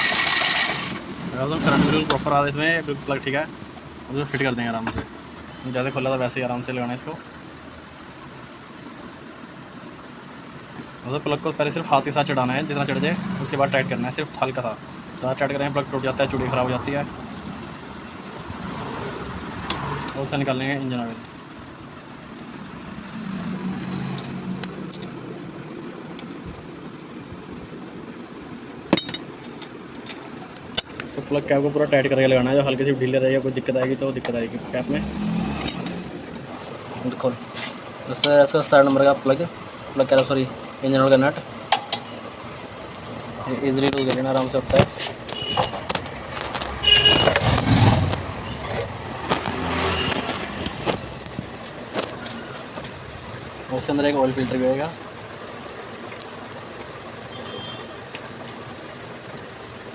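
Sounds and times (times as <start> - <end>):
workshop hum and hiss: 0.0 - 59.9.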